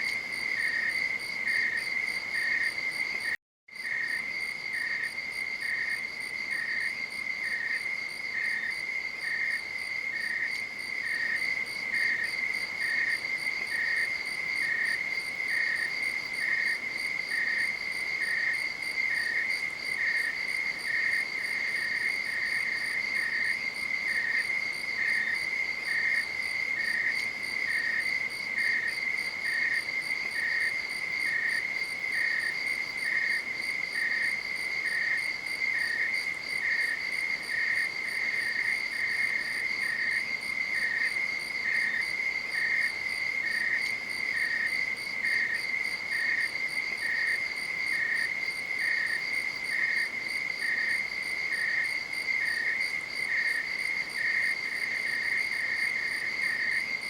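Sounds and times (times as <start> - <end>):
insect chirping: 0.0 - 57.0.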